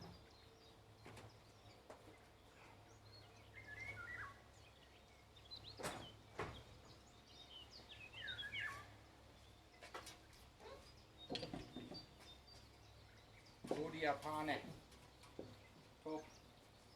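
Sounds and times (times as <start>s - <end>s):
songbirds chirping faintly: 0.0s - 16.9s.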